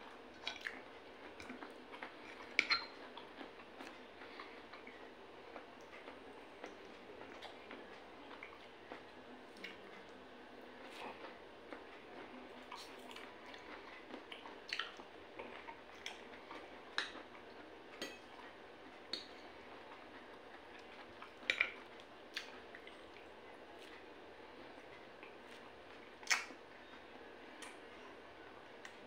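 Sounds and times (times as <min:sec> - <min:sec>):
faint chewing: 0:00.0 - 0:29.0.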